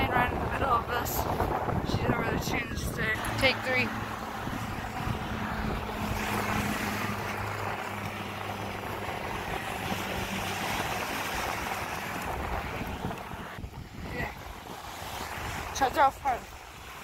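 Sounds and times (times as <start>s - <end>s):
propeller airplane engine droning: 0.0s - 15.7s
surf breaking on beach: 0.0s - 17.0s.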